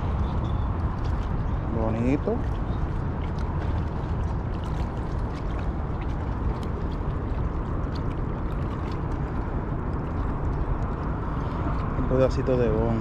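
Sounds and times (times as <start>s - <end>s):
river water lapping: 0.0s - 13.0s
wind buffeting microphone: 0.0s - 13.0s.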